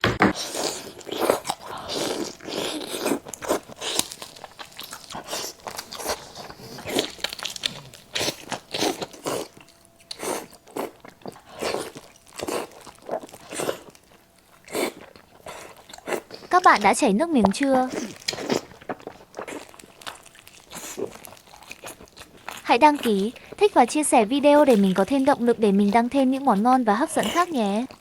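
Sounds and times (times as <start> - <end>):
person chewing crispy food: 0.3 - 28.0.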